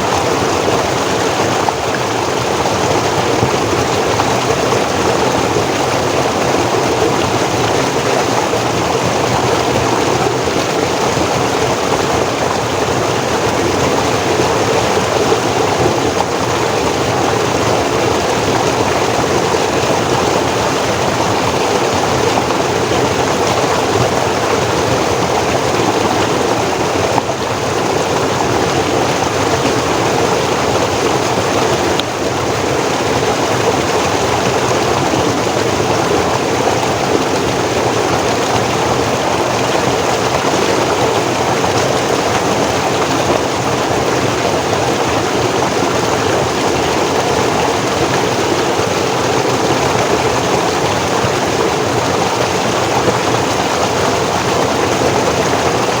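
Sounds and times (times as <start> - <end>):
stream flowing and splashing: 0.0 - 56.0.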